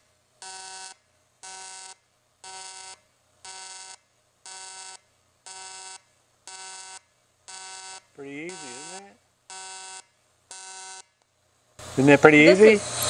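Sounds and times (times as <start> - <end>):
welding arc buzzing in pulses: 0.4 - 11.2.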